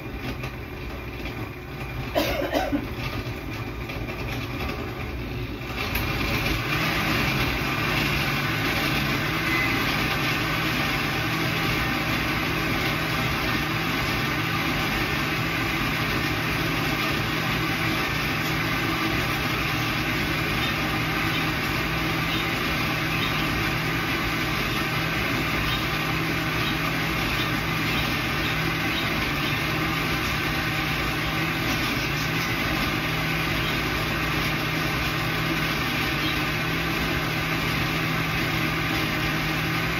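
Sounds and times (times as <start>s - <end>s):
electric grinding mill running: 0.0s - 39.9s.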